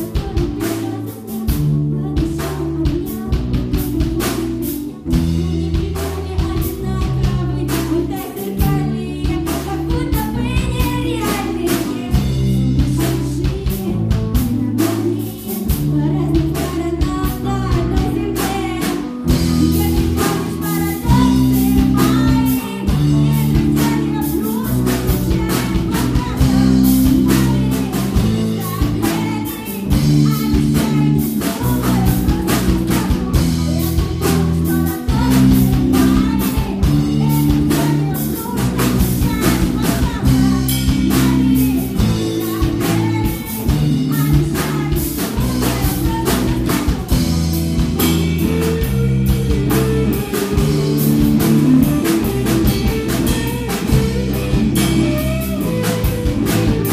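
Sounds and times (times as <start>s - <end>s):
drum kit: 0.0s - 56.9s
electric guitar: 0.0s - 56.9s
woman singing into a microphone: 0.0s - 56.9s.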